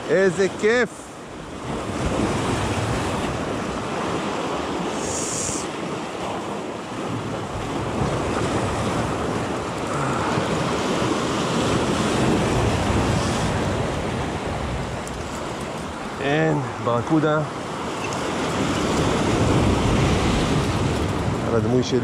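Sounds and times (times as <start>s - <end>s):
sea waves washing: 0.0s - 22.0s
wind buffeting microphone: 1.2s - 16.9s, 17.6s - 22.0s.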